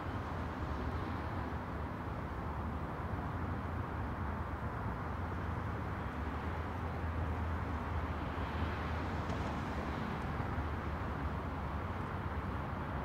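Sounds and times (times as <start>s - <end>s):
distant road traffic hum: 0.0s - 13.0s
wind: 0.0s - 13.0s.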